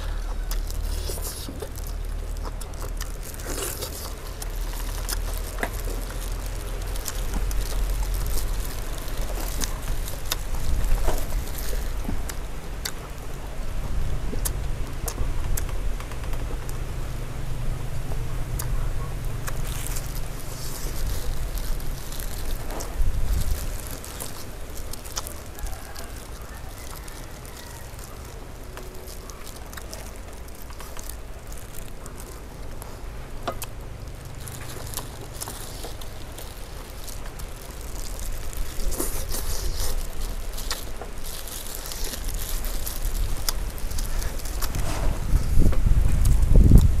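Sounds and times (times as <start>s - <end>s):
chicken being torn apart: 0.0s - 13.0s, 19.4s - 46.9s
chewing: 0.0s - 13.5s, 14.2s - 16.8s, 18.1s - 47.0s
wind rumble on microphone: 4.1s - 33.4s, 34.1s - 47.0s.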